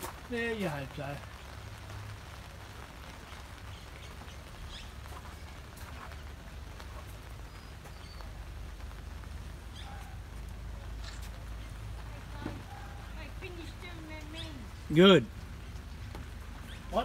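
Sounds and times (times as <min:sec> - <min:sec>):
raindrops pattering: 0:00.0 - 0:17.0.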